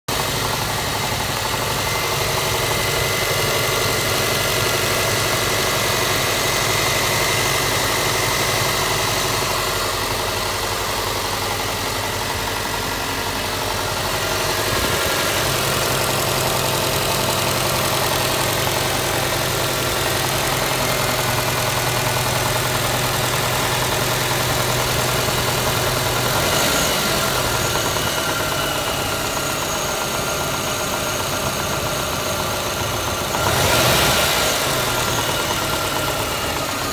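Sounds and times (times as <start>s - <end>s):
car engine idling: 0.1s - 36.9s
engine knocking: 0.1s - 36.9s.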